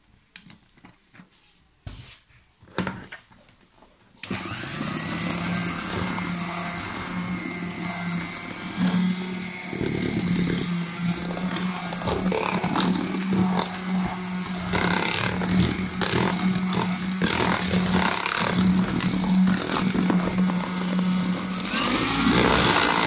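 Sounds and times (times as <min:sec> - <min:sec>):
electric hand mixer running: 0:04.2 - 0:23.0.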